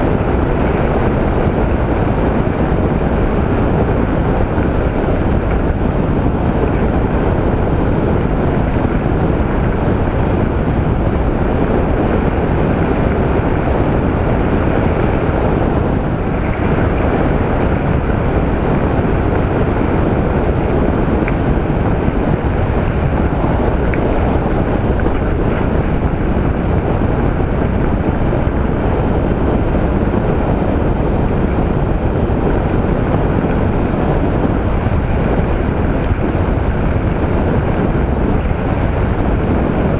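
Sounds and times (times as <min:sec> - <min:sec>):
road noise: 0:00.0 - 0:39.9
wind rushing on microphone: 0:00.0 - 0:39.9.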